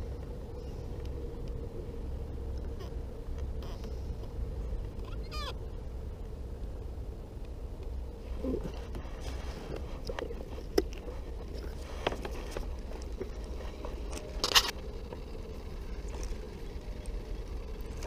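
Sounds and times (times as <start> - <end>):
faint steady hum: 0.0 - 18.0
low rumble: 0.0 - 18.0.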